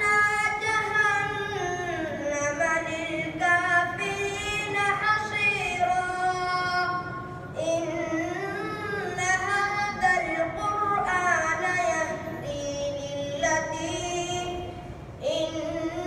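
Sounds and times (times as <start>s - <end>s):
child chanting: 0.0s - 16.0s.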